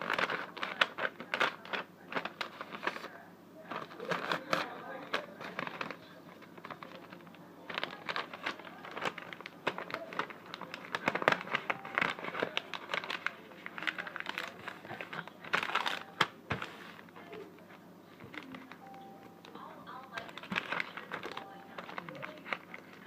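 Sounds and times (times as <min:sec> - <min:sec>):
material crinkling and rustling: 0:00.0 - 0:03.1, 0:03.7 - 0:23.0.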